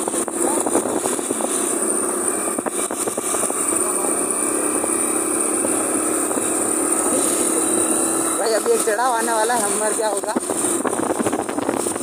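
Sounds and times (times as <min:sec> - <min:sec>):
road and wind noise: 0:00.0 - 0:12.0
small motorcycle engine running: 0:00.0 - 0:12.0.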